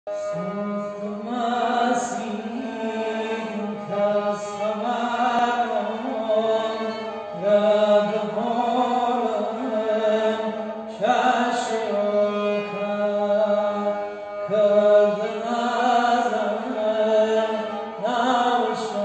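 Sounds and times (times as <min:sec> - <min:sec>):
bowed string instrument: 0:00.1 - 0:19.0
man singing: 0:00.1 - 0:19.0.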